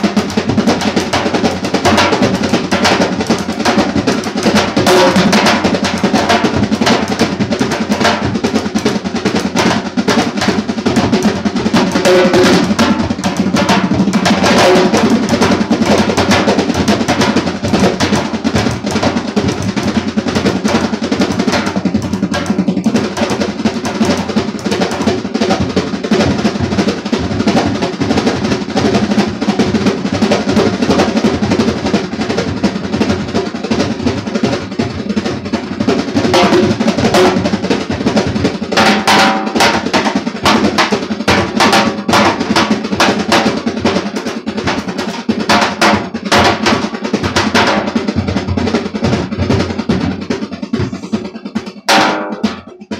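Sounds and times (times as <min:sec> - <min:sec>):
double-headed drum played by hand: 0:00.0 - 0:52.9
goblet drum: 0:00.0 - 0:52.9.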